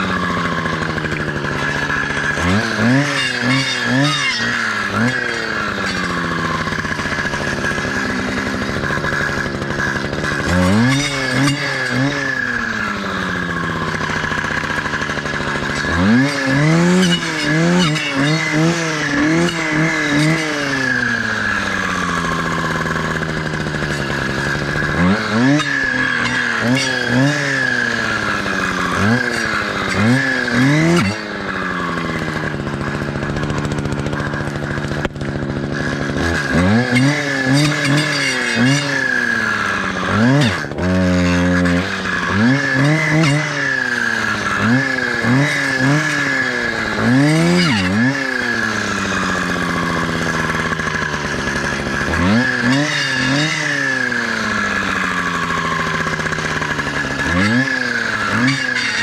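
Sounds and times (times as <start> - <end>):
brush cutter revving: 0.0 - 59.0.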